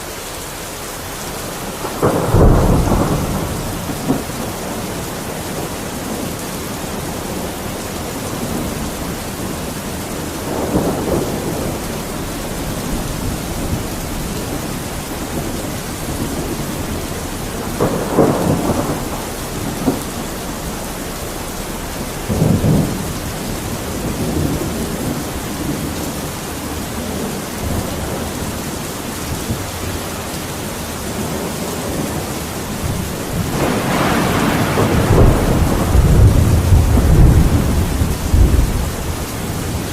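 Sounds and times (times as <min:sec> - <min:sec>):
steady rain: 0:00.0 - 0:39.9
thunder rumbling: 0:01.0 - 0:39.9.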